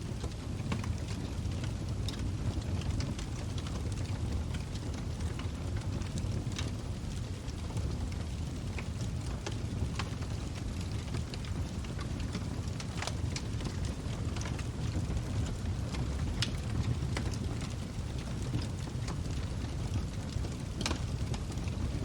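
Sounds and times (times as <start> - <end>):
log fire crackling and popping: 0.0 - 22.0
low rumble of flames: 0.0 - 22.0.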